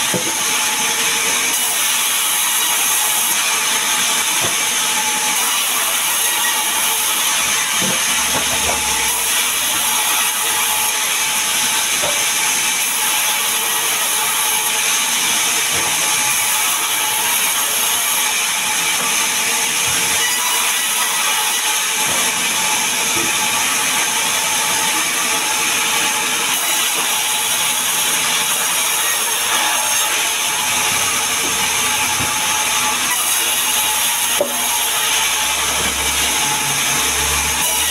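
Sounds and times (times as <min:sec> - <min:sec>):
band saw cutting wood: 0:00.0 - 0:37.9.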